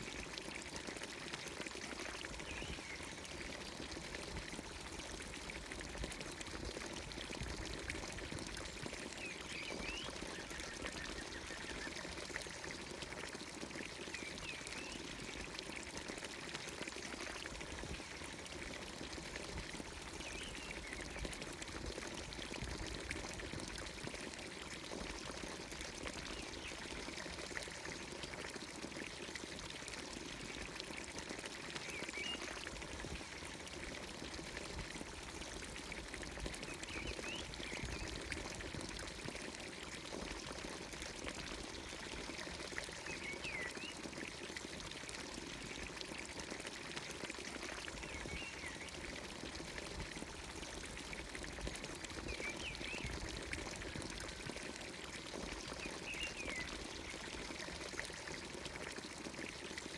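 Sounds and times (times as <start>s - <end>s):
water pouring from fountain spout: 0.0s - 59.9s.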